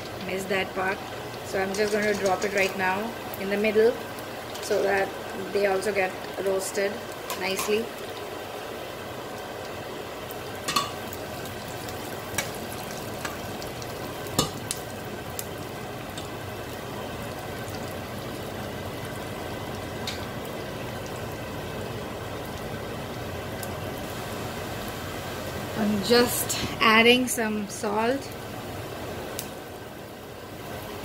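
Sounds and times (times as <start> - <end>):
food frying in oil: 0.0 - 31.0.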